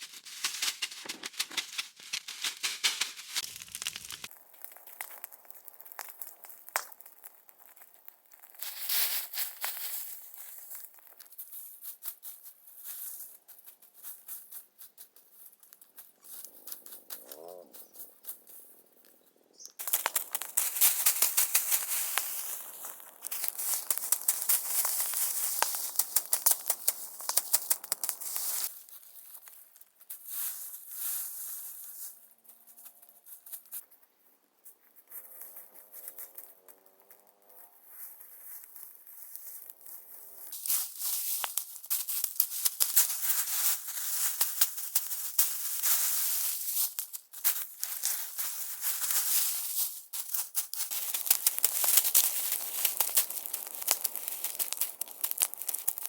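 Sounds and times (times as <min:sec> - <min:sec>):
rustling handling noise: 0:00.0 - 0:04.5, 0:08.6 - 0:56.0.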